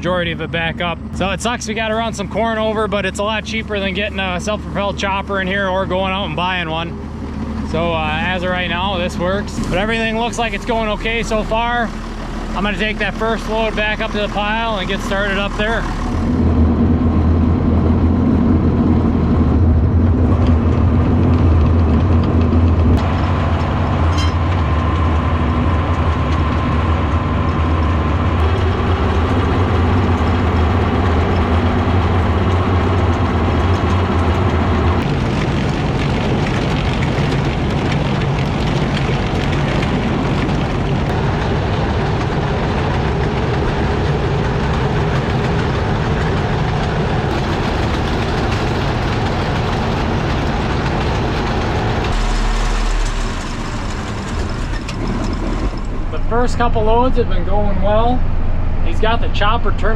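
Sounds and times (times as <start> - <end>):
tractor engine humming: 0.0 - 59.9.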